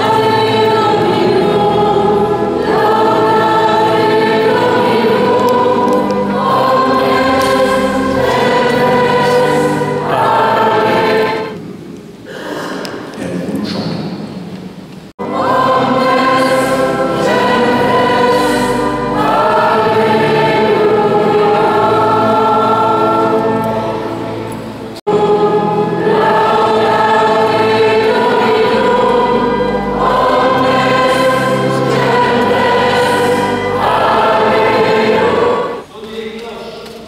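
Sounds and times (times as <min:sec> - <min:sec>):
choir singing a hymn: 0:00.0 - 0:11.6, 0:15.2 - 0:35.9.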